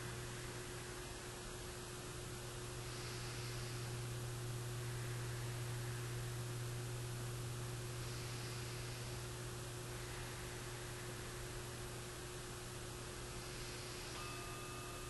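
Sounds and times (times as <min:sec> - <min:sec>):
low hum: 0:00.0 - 0:15.0
steady hiss: 0:00.0 - 0:15.0.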